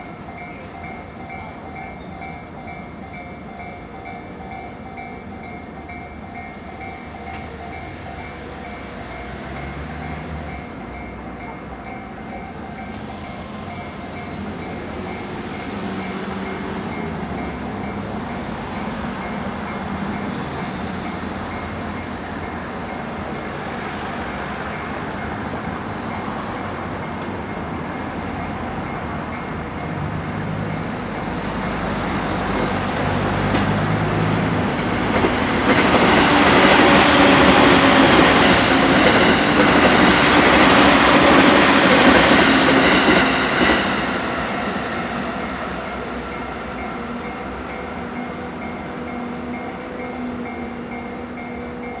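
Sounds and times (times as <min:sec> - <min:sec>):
train rumbling over tracks: 0:00.0 - 0:52.0.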